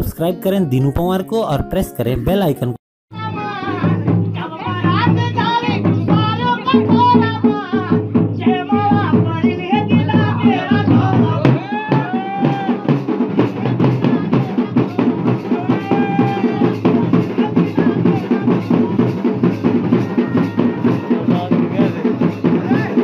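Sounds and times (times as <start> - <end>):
fast dense drum beat: 3.2 - 23.0.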